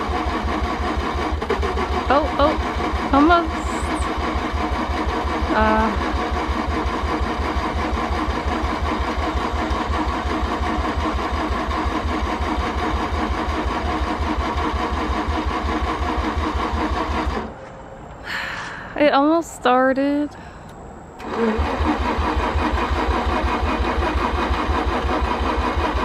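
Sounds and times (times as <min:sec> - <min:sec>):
engine cranking on starter: 0:00.0 - 0:17.8, 0:20.6 - 0:26.0.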